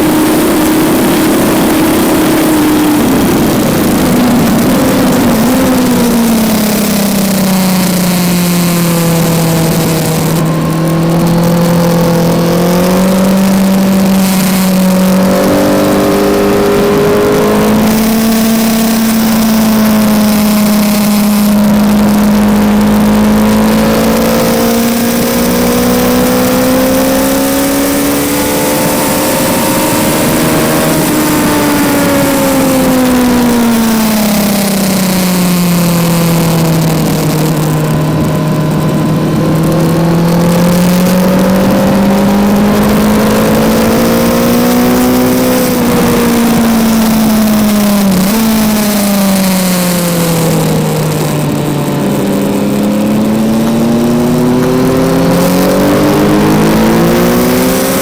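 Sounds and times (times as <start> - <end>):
motorcycle engine revving: 0.0 - 58.0
wind rush over microphone: 0.0 - 58.0.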